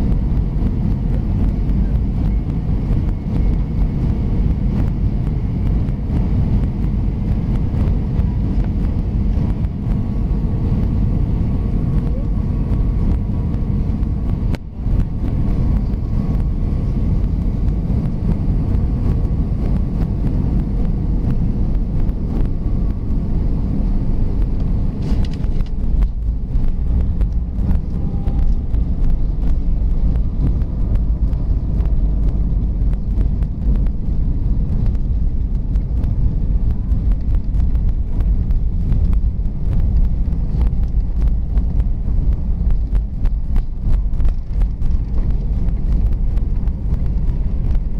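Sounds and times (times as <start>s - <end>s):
aircraft engines and airflow rumble: 0.0s - 47.9s.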